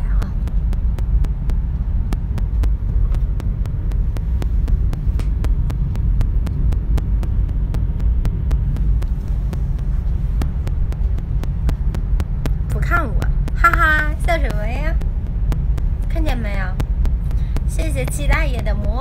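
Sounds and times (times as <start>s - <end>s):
faint rapid clicks: 0.0s - 19.0s
vehicle cabin rumble and hum: 0.0s - 19.0s.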